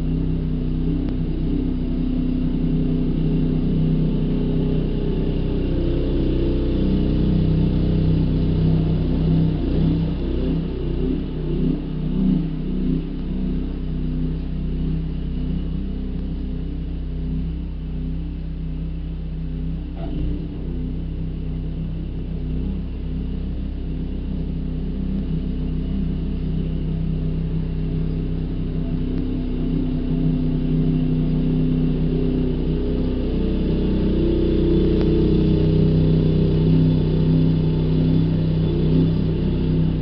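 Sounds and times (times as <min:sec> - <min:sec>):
motor vehicle engine running: 0:00.0 - 0:40.0.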